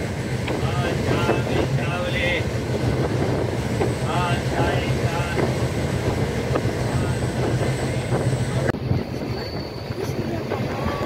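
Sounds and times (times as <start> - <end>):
train rumbling: 0.0 - 11.0
wind on microphone: 0.0 - 11.0.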